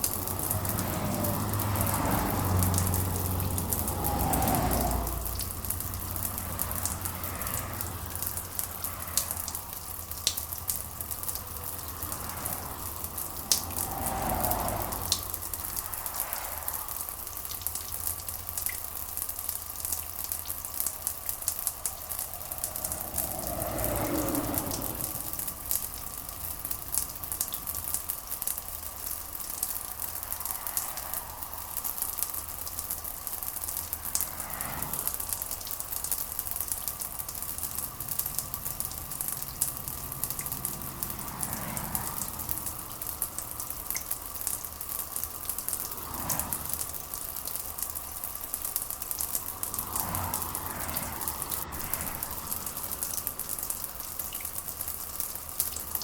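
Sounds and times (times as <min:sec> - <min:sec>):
rain hiss and patter: 0:00.0 - 0:56.0.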